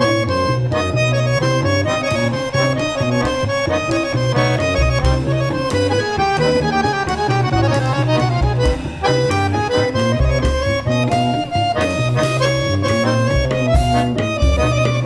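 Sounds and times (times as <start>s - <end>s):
button accordion melody: 0.0s - 15.0s
plucked double bass: 0.0s - 15.0s.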